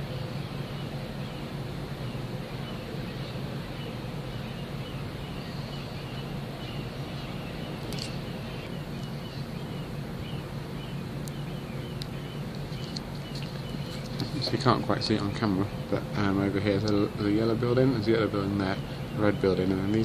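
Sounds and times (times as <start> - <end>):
bird chirping: 0.0 - 20.0
ship machinery hum: 0.0 - 20.0.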